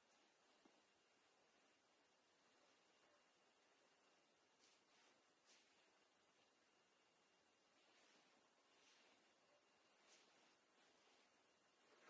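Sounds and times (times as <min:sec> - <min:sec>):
faint soft rustle: 0:00.0 - 0:12.0.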